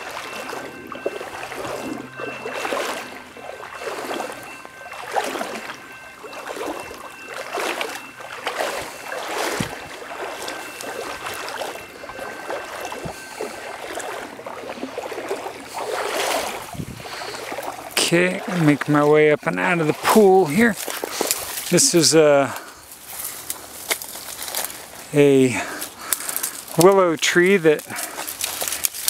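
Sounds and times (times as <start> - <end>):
footsteps wading through water: 0.0 - 29.0.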